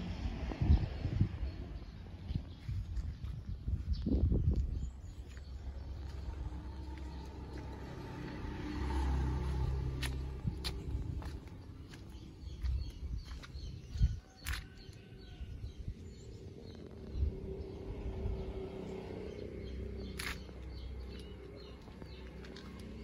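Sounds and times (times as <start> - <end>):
low rumble: 0.0 - 14.2, 15.6 - 23.0.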